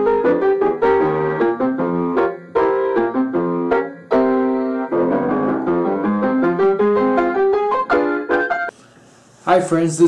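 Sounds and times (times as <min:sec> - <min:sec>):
ragtime piano music: 0:00.0 - 0:08.7.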